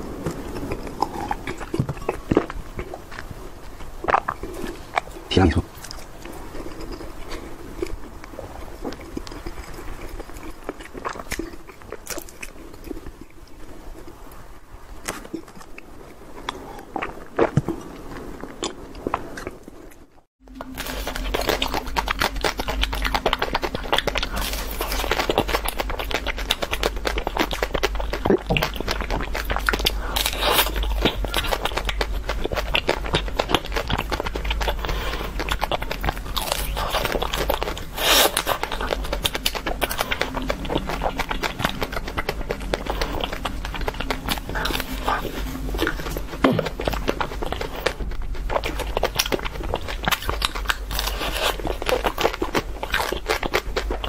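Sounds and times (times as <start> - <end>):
biting and crunching ice cream bars: 0.0 - 14.2, 18.6 - 54.0.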